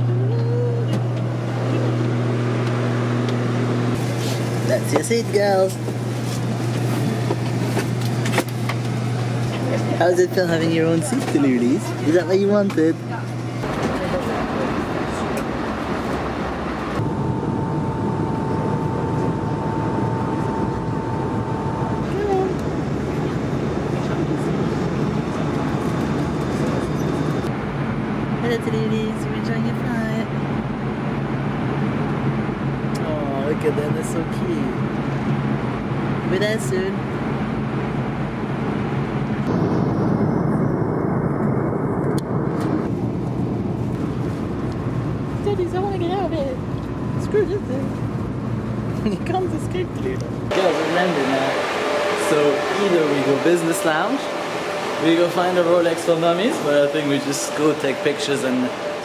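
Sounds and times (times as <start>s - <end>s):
constant engine whine: 0.0s - 59.0s
jet engines roaring in cabin: 0.0s - 59.0s.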